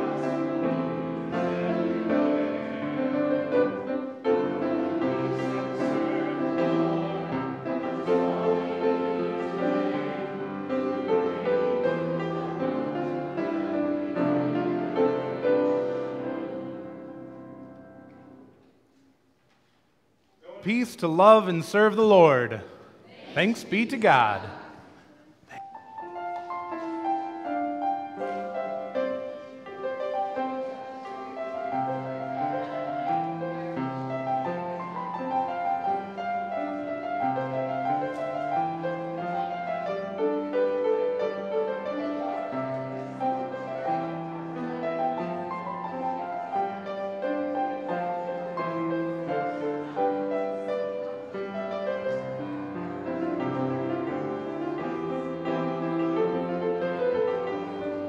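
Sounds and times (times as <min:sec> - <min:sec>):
slow classical piano: 0:00.0 - 0:20.6, 0:24.6 - 0:58.0.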